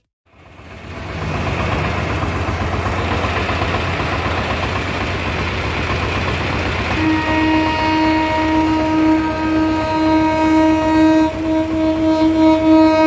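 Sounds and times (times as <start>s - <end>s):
engine idling: 0.3s - 13.0s.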